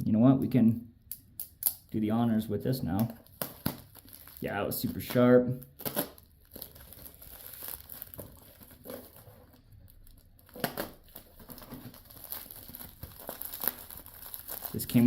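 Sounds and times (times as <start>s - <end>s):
packaging crinkling and tearing: 2.9s - 15.0s.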